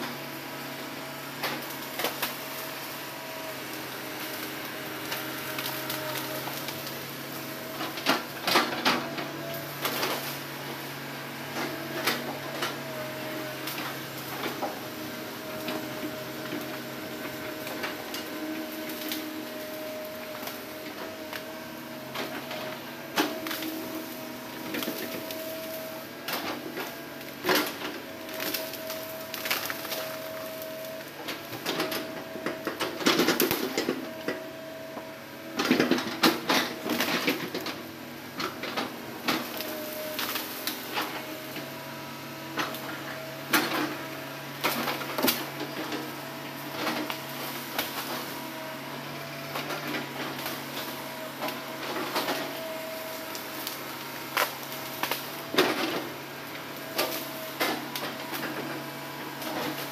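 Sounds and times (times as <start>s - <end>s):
excavator engine droning: 0.0s - 59.9s.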